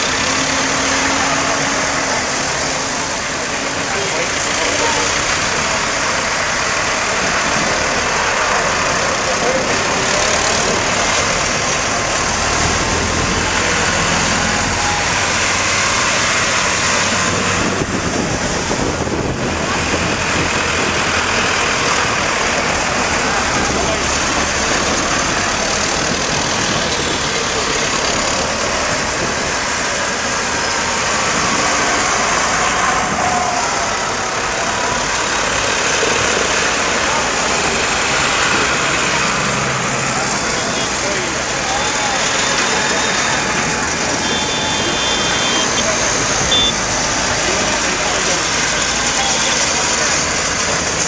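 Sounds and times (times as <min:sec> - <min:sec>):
tractor engines passing: 0:00.0 - 0:51.0.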